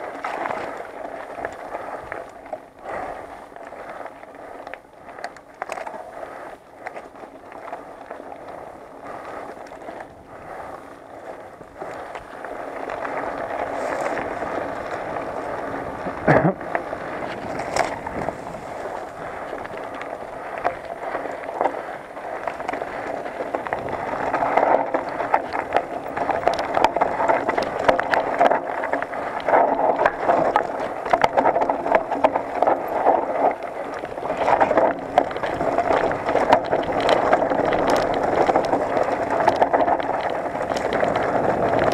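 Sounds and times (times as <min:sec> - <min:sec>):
bike rattling: 0:00.0 - 0:41.9
tyres crunching over stones: 0:00.0 - 0:41.9.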